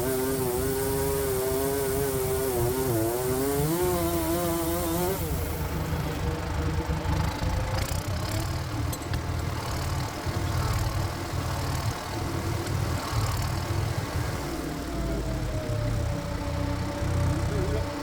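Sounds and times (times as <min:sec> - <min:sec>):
tiller engine running: 0:00.0 - 0:18.0
whine over engine: 0:00.0 - 0:18.0.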